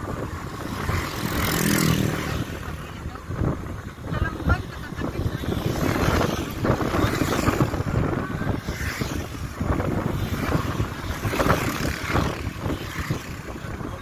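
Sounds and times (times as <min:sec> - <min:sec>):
moving vehicle rushing: 0:00.0 - 0:14.0
wind buffeting microphone: 0:00.0 - 0:14.0.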